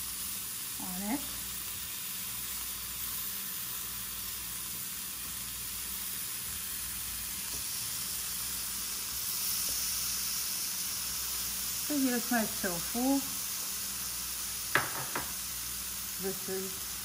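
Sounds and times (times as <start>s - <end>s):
tofu sizzling in oil: 0.0s - 17.0s.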